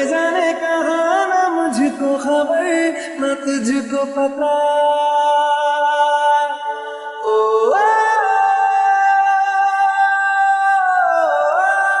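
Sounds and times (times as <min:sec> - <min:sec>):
person singing long wordless notes: 0:00.0 - 0:12.0.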